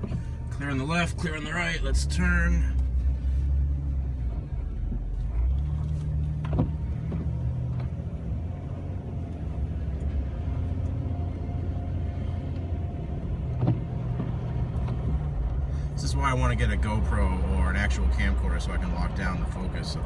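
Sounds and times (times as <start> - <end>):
car engine drone from inside cab: 0.0 - 20.0.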